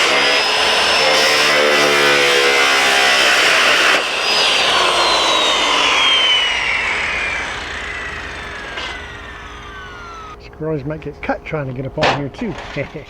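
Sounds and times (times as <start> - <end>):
power tool whine spinning down: 0.0 - 13.0.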